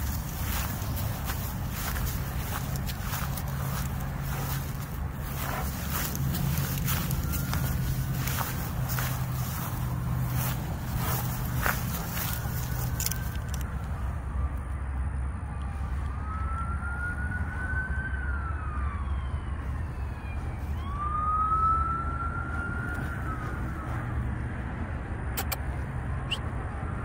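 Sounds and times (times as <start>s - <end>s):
siren wailing: 0.0s - 24.9s
low rumble: 0.0s - 25.2s.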